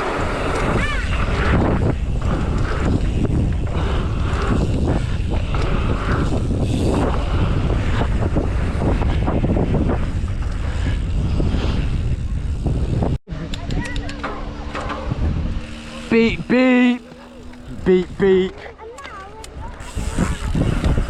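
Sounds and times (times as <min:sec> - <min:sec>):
strong wind buffeting microphone: 0:00.0 - 0:16.5, 0:19.4 - 0:21.0.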